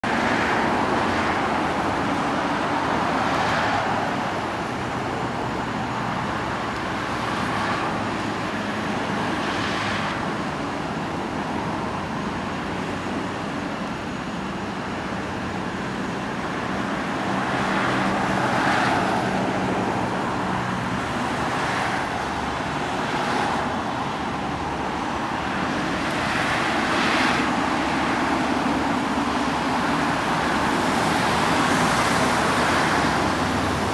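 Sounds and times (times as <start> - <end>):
vehicles passing: 0.0 - 14.1, 15.0 - 33.9
road traffic roar: 0.0 - 33.9.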